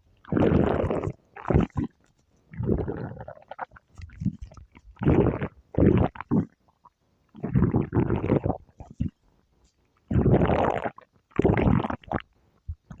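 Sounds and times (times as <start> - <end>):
stomach growling: 0.0 - 9.2, 10.0 - 13.0.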